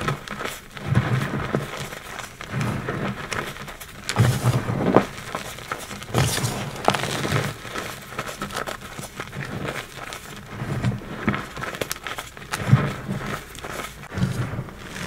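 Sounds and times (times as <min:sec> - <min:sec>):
chalk crunching and crumbling: 0:00.0 - 0:15.0.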